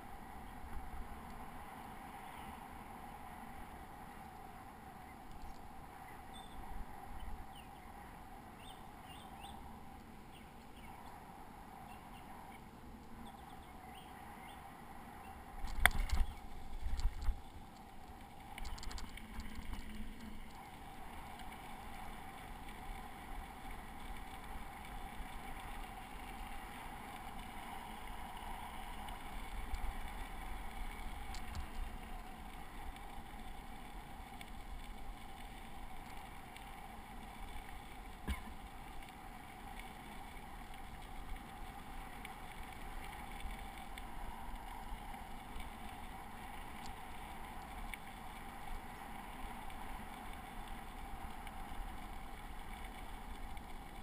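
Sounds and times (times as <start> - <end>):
bicycle rolling on gravel: 0.0 - 54.0.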